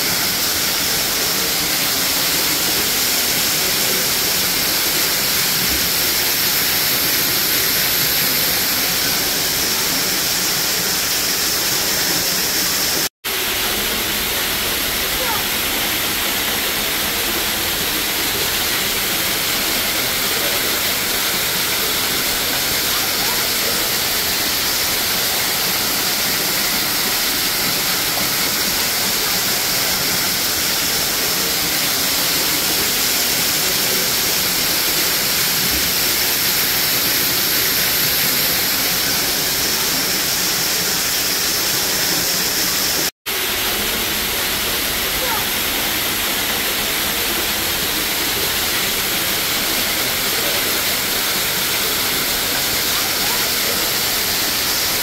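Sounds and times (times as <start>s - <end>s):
waterfall pouring into pool: 0.0s - 55.0s.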